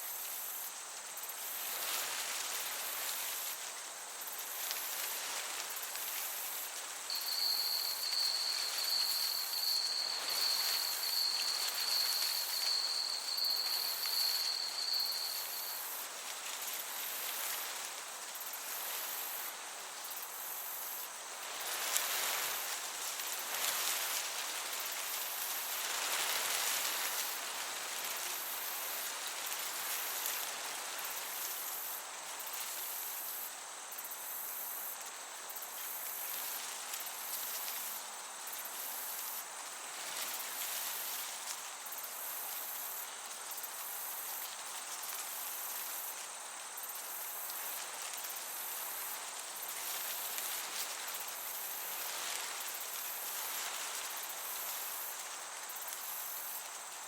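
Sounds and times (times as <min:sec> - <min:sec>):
crickets chirping: 0:00.0 - 0:57.0
gentle breeze: 0:00.0 - 0:57.0.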